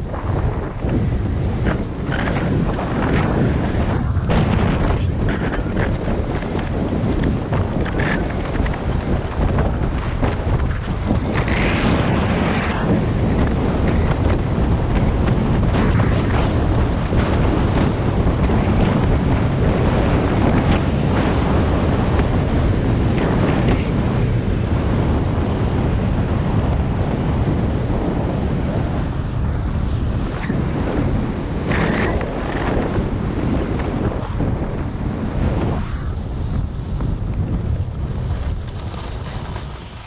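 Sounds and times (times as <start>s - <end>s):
skis scraping over snow: 0.0s - 40.0s
wind buffeting microphone: 0.0s - 40.0s.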